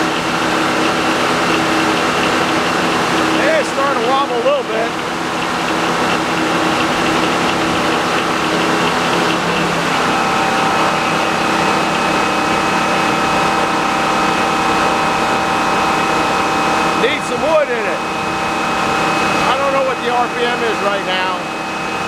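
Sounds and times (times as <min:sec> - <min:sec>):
circular sawmill blade spinning: 0:00.0 - 0:22.0
high mechanical whine: 0:00.0 - 0:22.0.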